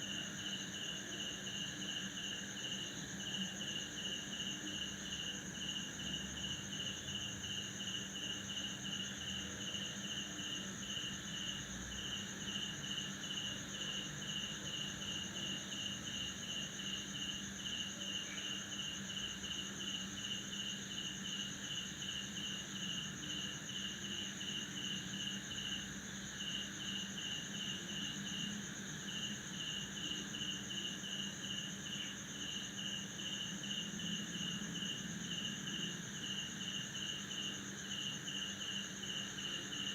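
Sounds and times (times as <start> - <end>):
cricket chirping: 0.0 - 39.9
crickets trilling: 0.0 - 39.9.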